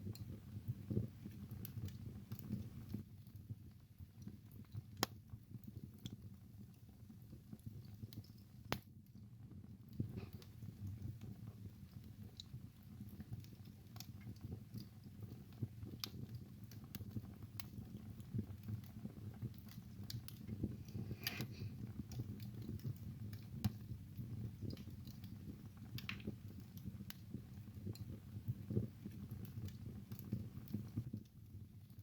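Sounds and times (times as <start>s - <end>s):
fire crackles and pops: 0.0s - 32.0s
low rumble of flame: 0.0s - 32.0s.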